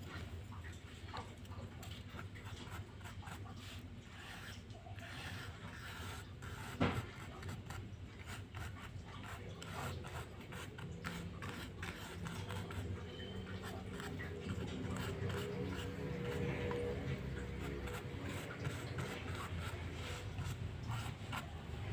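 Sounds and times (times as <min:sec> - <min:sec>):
wooden stick scratching card: 0:02.7 - 0:21.9.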